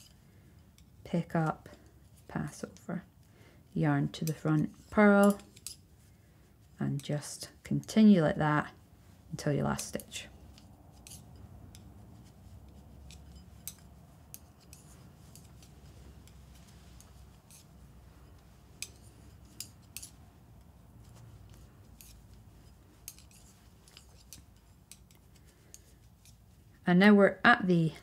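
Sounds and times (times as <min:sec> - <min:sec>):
knitting needles clicking: 0:00.0 - 0:05.8, 0:06.7 - 0:26.8.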